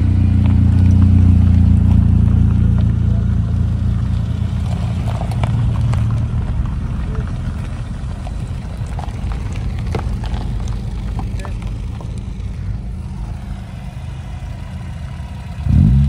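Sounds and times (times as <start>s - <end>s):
small car engines driving past: 0.0s - 16.0s.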